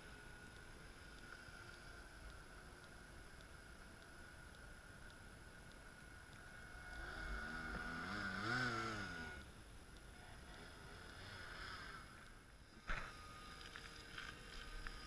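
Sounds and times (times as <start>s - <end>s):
faint steady high whine: 0.0s - 15.0s.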